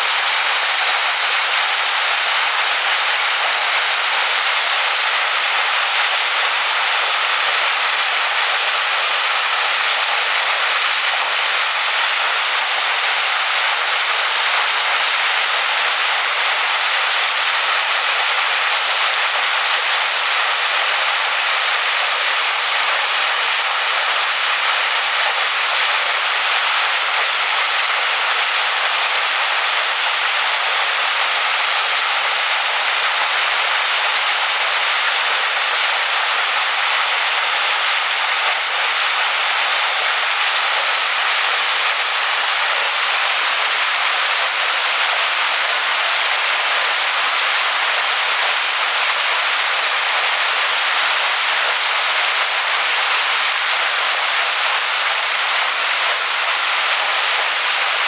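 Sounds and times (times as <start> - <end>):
waterfall splashing onto rocks: 0.0 - 58.0.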